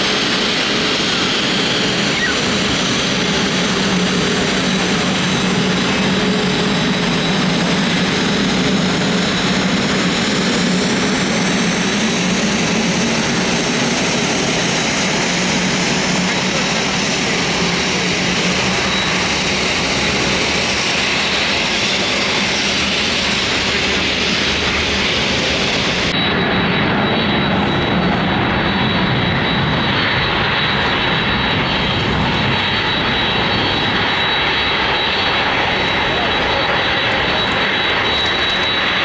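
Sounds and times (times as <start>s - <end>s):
airliner engines running: 0.0s - 39.0s
thin high engine whine: 0.0s - 39.0s.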